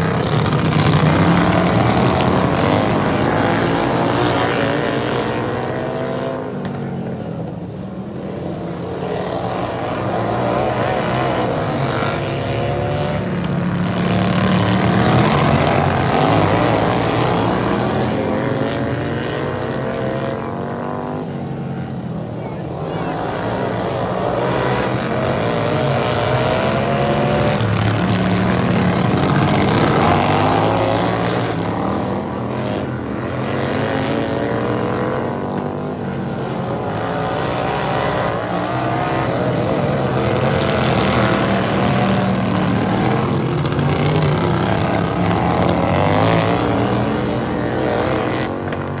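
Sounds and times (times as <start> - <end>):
racing lawn tractor engines revving: 0.0 - 49.0.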